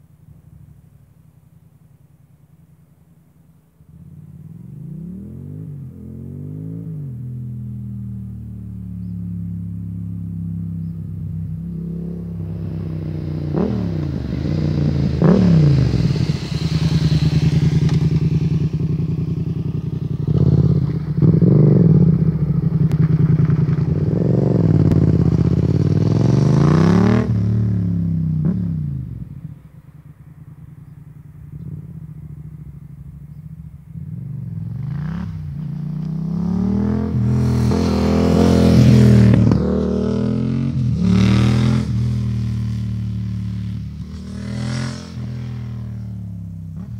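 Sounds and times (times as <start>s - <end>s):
motorcycle engine revving: 3.8s - 46.9s.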